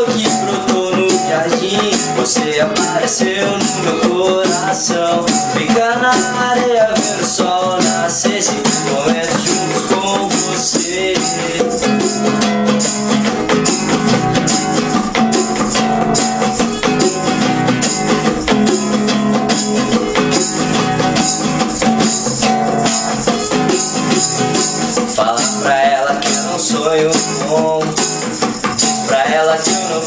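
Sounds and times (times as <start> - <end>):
bongo and hand percussion: 0.0 - 30.0
reggae instrumental music: 0.0 - 30.0
strummed acoustic guitar: 0.0 - 30.0.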